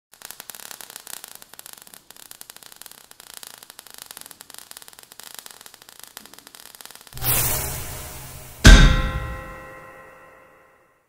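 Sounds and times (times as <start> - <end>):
crackling sparks: 0.1 - 10.3.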